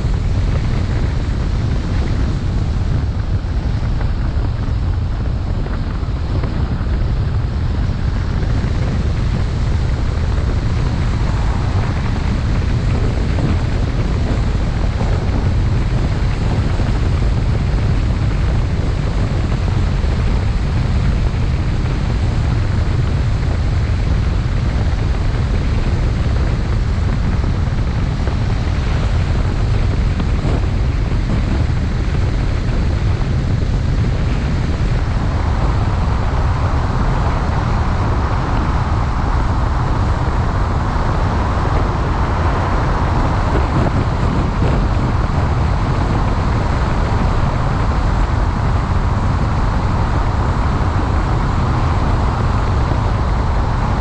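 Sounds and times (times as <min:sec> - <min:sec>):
road and wind noise rumble: 0:00.0 - 0:54.0.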